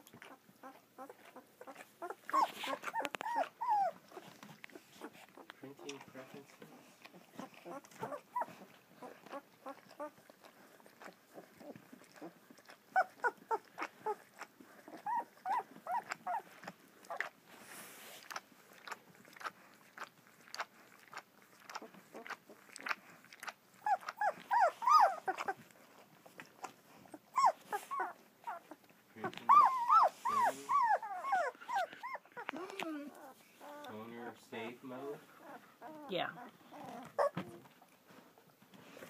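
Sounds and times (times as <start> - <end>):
puppies squeaking and whining: 0.1 - 38.0.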